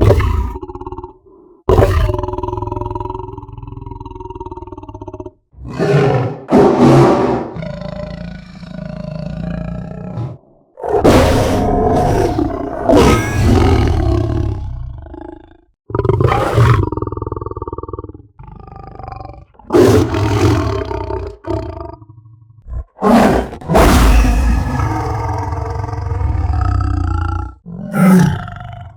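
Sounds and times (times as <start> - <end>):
lion roaring: 0.0 - 28.9.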